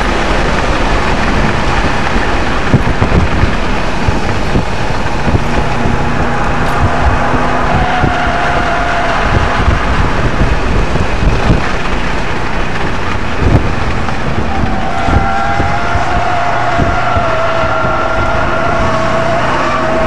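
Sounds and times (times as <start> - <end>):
car engine under load: 0.0 - 20.0
low road thumps: 0.0 - 20.0
wind and tyre noise: 0.0 - 20.0.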